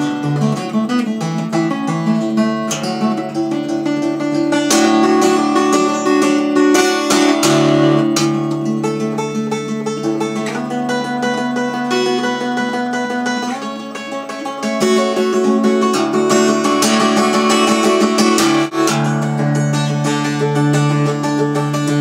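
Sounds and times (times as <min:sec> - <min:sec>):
acoustic guitar strummed and picked: 0:00.0 - 0:22.0.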